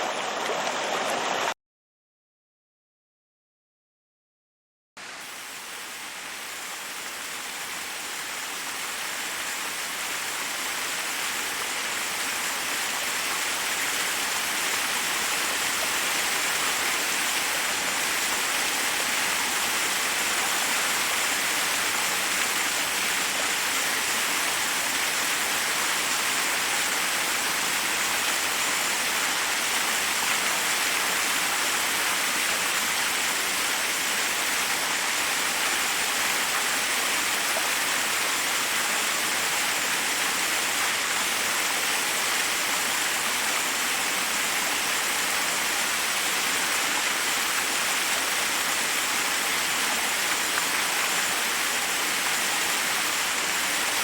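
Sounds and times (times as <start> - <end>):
waterfall rushing over rocks: 0.0 - 1.6, 5.0 - 54.0.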